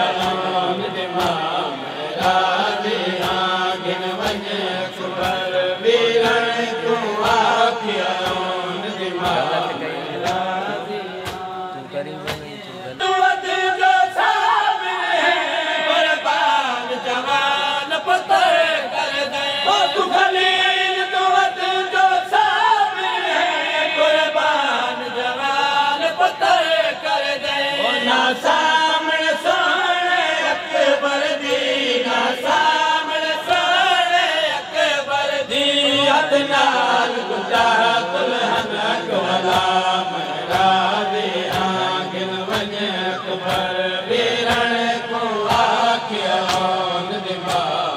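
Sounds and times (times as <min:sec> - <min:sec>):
men reciting a lament: 0:00.0 - 0:47.9
reciter through a microphone: 0:00.0 - 0:47.9.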